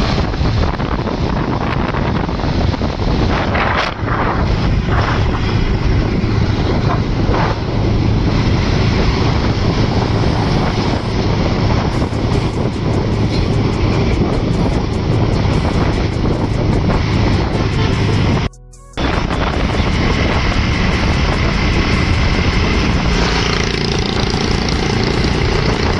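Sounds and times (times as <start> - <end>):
motorcycle engine cruising: 0.0 - 25.9
wind rushing over microphone: 0.0 - 25.9.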